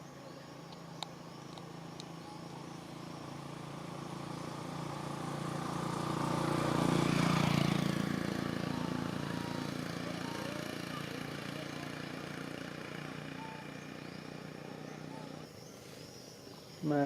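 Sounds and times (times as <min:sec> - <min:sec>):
vehicle engine passing by: 0:01.5 - 0:15.5.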